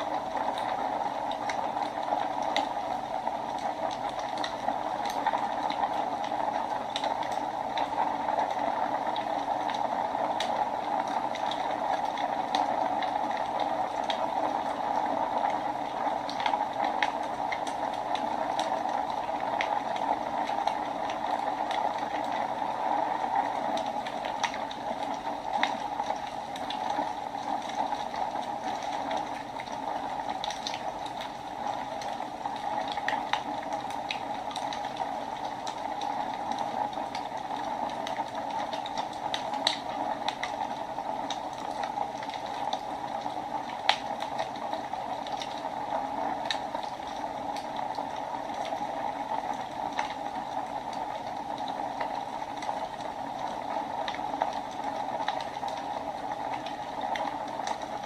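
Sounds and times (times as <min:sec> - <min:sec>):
wood crackling and popping: 0:00.0 - 0:58.0.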